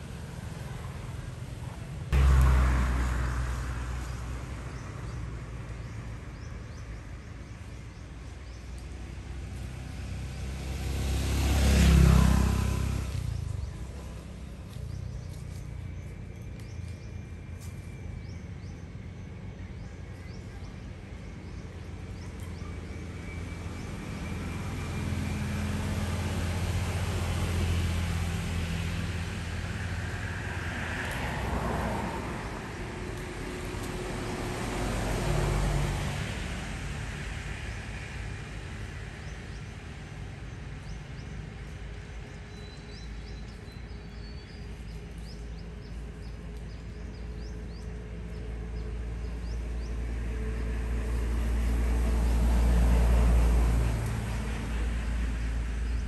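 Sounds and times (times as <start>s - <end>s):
vehicle passing with rumble: 0.0s - 56.0s.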